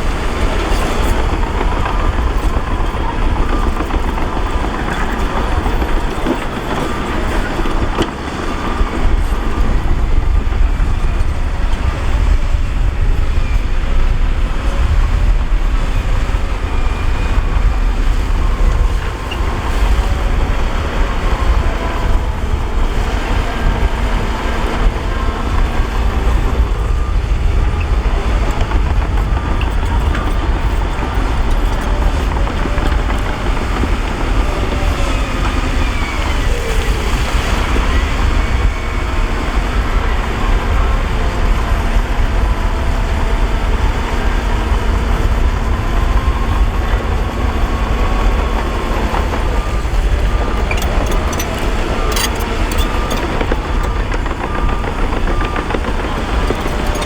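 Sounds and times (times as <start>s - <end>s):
diesel machinery rumbling: 0.0s - 57.0s.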